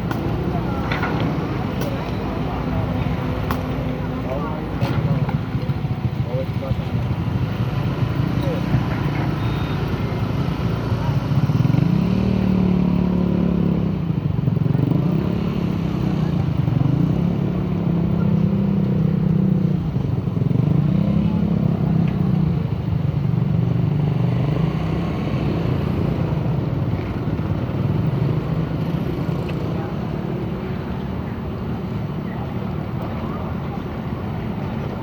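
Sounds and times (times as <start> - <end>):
excavator diesel engine under load: 0.0 - 35.0.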